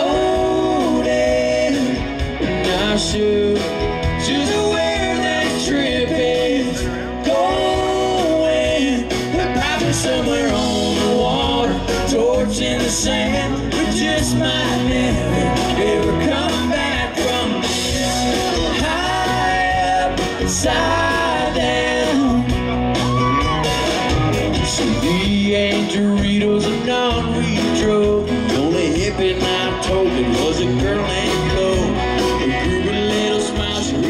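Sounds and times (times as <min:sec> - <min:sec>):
live country-rock band: 0:00.0 - 0:34.0
person singing: 0:00.0 - 0:34.0.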